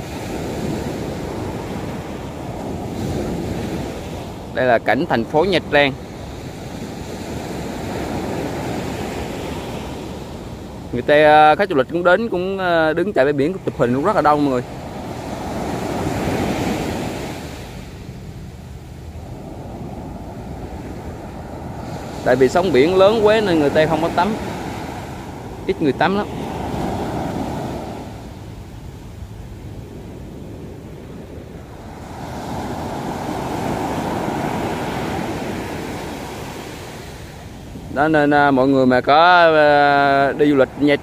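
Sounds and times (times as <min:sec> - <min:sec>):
surf breaking on sandy beach: 0:00.0 - 0:41.0.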